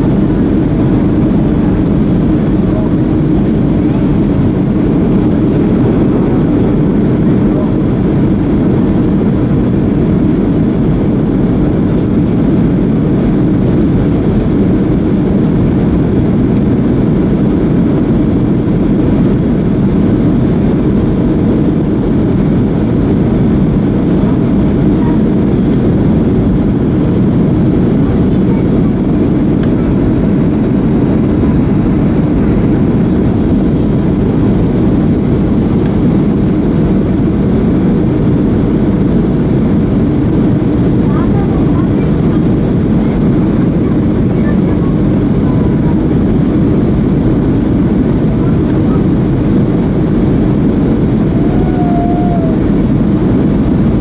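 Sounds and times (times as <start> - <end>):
airflow over fuselage: 0.0 - 54.0
airplane cabin engine rush: 0.0 - 54.0.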